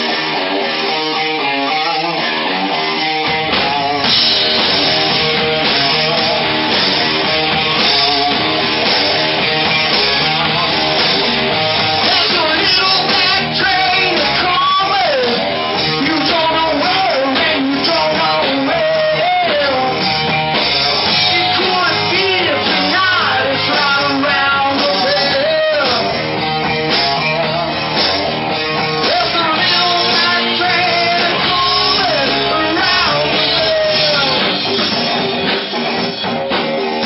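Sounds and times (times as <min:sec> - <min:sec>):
man singing lead: 0:00.0 - 0:35.4
rock band playing loudly: 0:00.0 - 0:37.0.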